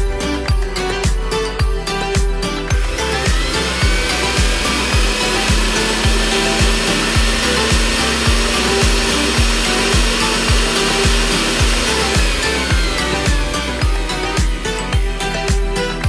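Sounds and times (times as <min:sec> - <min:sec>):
bass drum beat: 0:00.0 - 0:16.0
electronic music: 0:00.0 - 0:16.0
sweeping synth sounds: 0:01.9 - 0:16.0.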